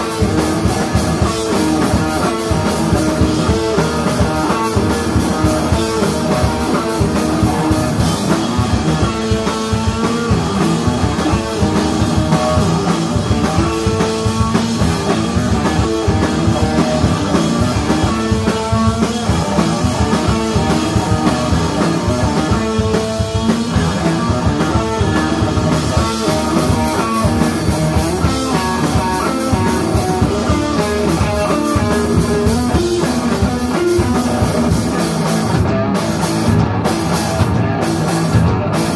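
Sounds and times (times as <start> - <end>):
distorted electric guitar: 0.0 - 38.9
drum kit with cymbals: 0.0 - 38.9.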